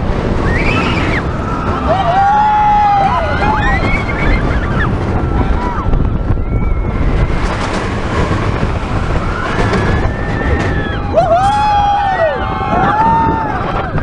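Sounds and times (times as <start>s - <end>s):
roller coaster rumbling on track: 0.0s - 14.0s
wind buffeting microphone: 0.0s - 14.0s
riders yelling and screaming: 0.4s - 7.6s, 8.9s - 14.0s.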